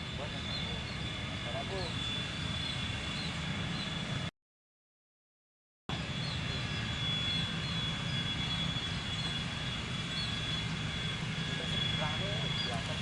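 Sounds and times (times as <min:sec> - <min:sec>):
jet engines running: 0:00.0 - 0:04.3, 0:05.9 - 0:13.0.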